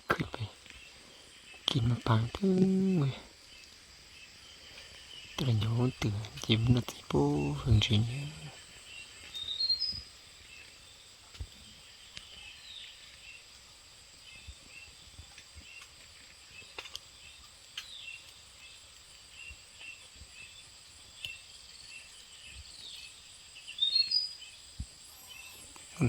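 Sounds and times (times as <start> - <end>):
bird chirps: 0.1 - 13.5, 14.2 - 26.0.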